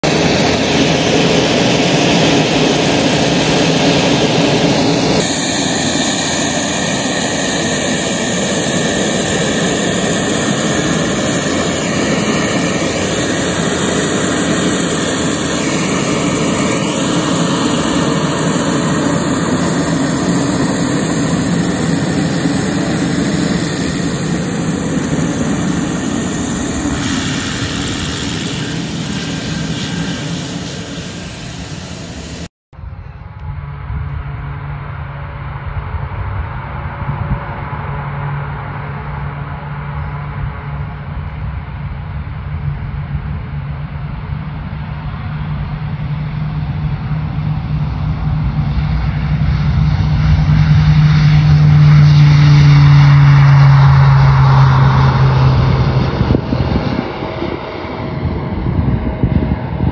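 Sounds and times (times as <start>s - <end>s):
turboprop aircraft taxiing: 0.0s - 59.9s.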